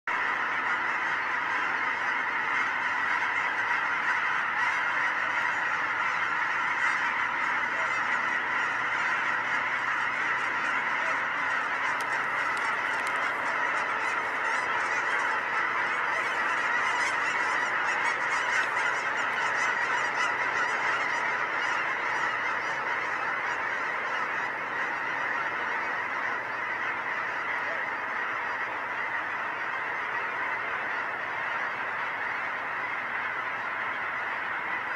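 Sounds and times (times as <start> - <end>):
flock of geese honking: 0.1 - 34.9.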